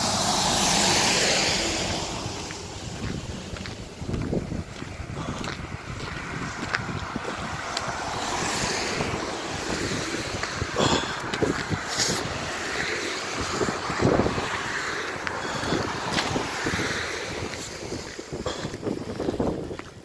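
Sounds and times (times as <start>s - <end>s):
car driving by on slush: 0.0s - 4.0s, 4.6s - 19.9s
wind buffeting microphone: 0.0s - 20.0s.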